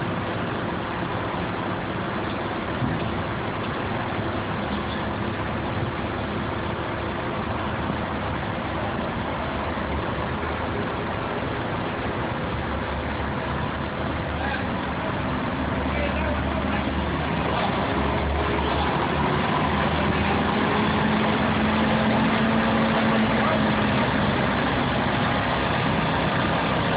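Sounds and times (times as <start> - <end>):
heavy engine running: 0.0 - 26.9.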